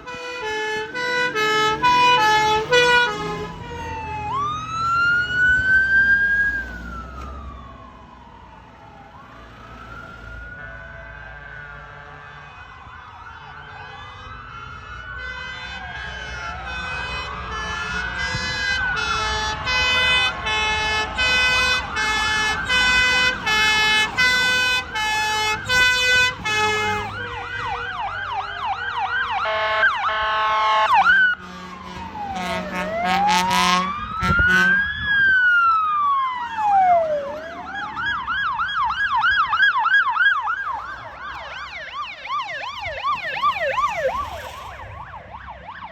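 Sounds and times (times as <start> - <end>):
fast yelping siren: 0.0 - 11.4, 16.5 - 45.9
two-tone siren: 0.0 - 45.9
wailing siren: 0.0 - 45.9.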